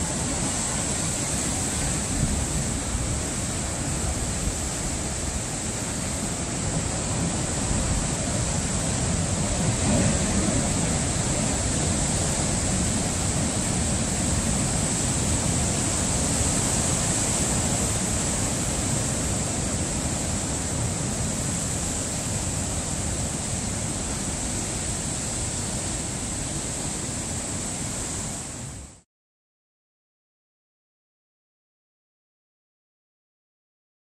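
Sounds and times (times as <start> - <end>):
ocean surf breaking on rocks: 0.0 - 28.8.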